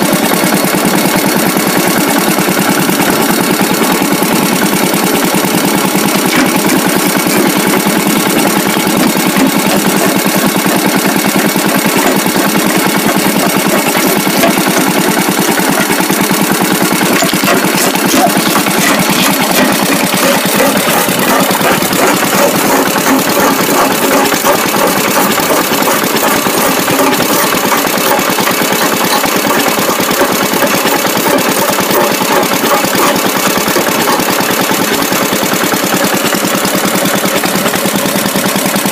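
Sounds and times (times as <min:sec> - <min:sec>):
engine driving rock crusher: 0:00.0 - 0:38.9.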